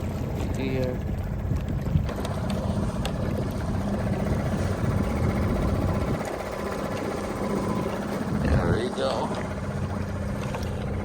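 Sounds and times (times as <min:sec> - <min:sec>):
boat engine rumble: 0:00.0 - 0:11.0
faint motor hum: 0:00.0 - 0:11.0.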